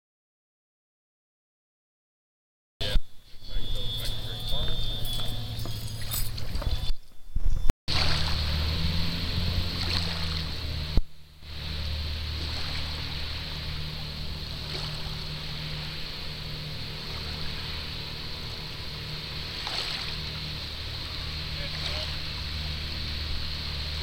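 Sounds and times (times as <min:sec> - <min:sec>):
boat engines humming: 0:02.8 - 0:24.0.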